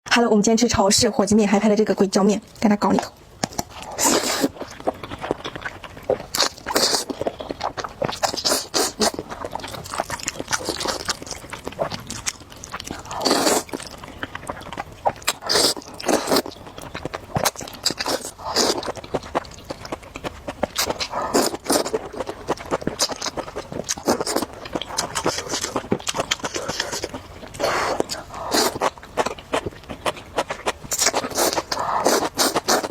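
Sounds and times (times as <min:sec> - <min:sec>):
chewing: 0:02.5 - 0:32.9
wet noodle slurping: 0:03.5 - 0:32.9.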